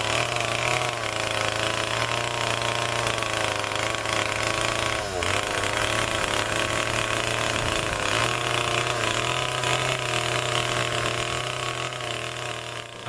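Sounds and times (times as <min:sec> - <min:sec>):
chainsaw engine running: 0:00.0 - 0:13.0.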